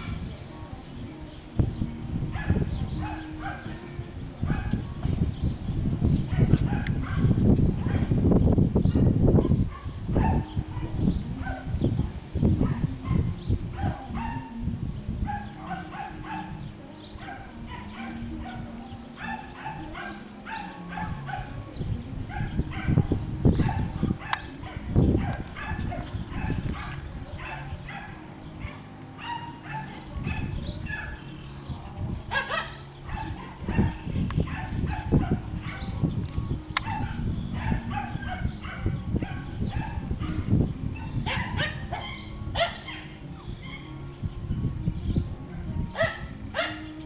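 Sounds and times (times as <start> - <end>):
puppies yipping and barking: 1.9 - 14.6, 15.2 - 44.3, 45.5 - 47.0.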